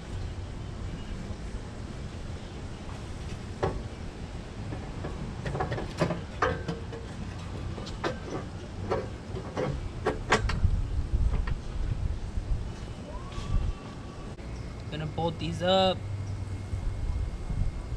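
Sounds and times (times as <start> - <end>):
wind rumble on microphone: 0.0 - 14.8, 16.0 - 17.9.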